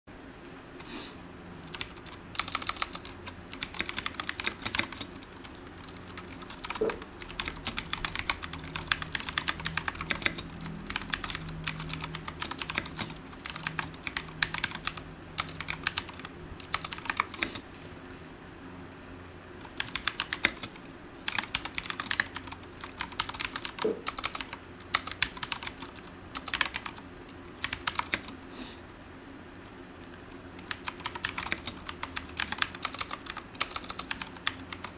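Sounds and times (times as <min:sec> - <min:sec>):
mechanical keyboard typing: 0:01.7 - 0:17.6, 0:19.6 - 0:27.0, 0:27.6 - 0:28.4, 0:30.6 - 0:34.9.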